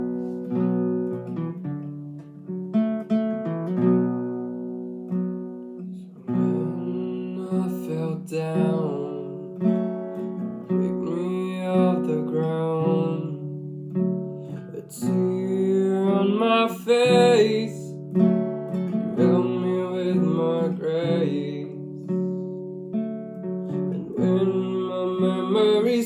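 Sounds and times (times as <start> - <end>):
acoustic guitar picked and strummed: 0.0 - 26.0.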